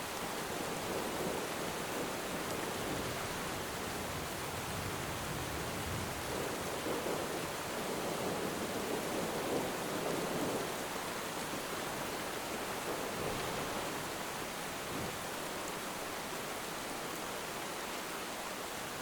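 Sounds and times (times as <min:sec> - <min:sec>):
dense rainfall hiss: 0:00.0 - 0:19.0.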